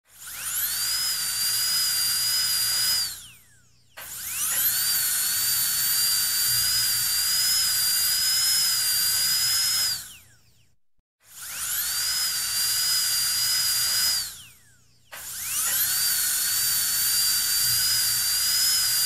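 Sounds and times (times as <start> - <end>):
dentist's drill whine: 0.1 - 10.5, 11.2 - 19.0.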